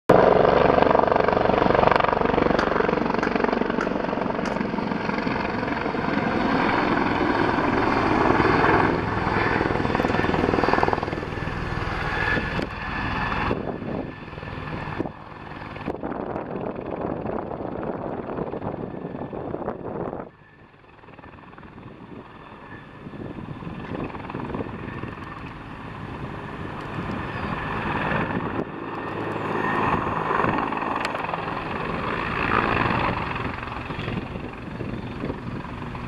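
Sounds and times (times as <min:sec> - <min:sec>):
helicopter flying overhead: 0:00.1 - 0:36.0.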